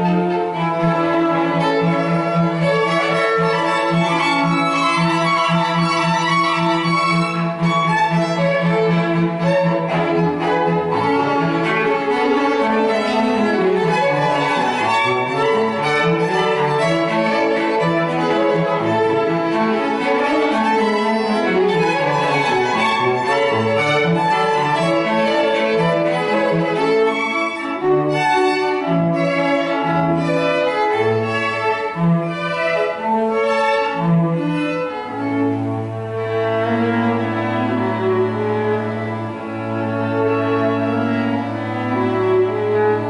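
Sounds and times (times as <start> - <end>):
string quartet playing classical music: 0.0 - 43.0.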